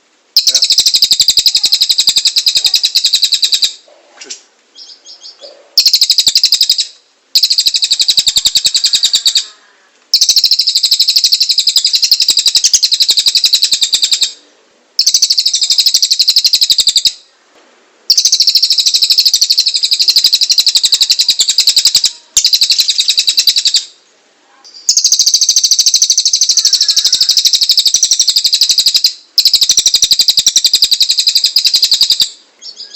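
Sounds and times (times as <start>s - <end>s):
songbird singing rapid scratchy notes: 0.4s - 3.8s, 4.7s - 9.5s, 10.1s - 14.4s, 15.0s - 17.2s, 18.1s - 23.9s, 24.7s - 32.9s.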